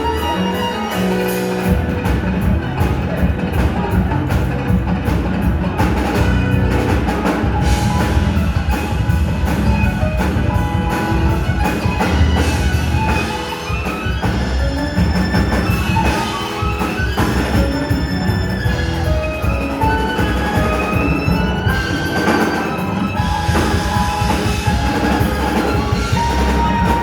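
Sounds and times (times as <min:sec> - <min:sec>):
percussion beat: 0:00.0 - 0:27.0
strong bass: 0:01.6 - 0:16.4, 0:17.1 - 0:27.0.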